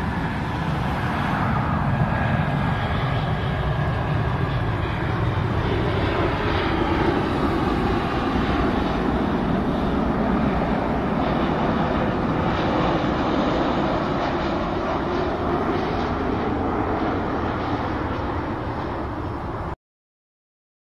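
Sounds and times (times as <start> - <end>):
airliner engines passing overhead: 0.0 - 19.8.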